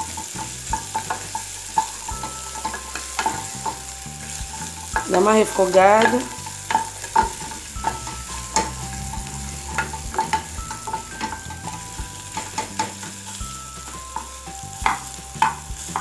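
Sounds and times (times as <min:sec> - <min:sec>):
garlic sizzling in oil: 0:00.0 - 0:16.0
wooden spoon scraping pan: 0:00.0 - 0:16.0.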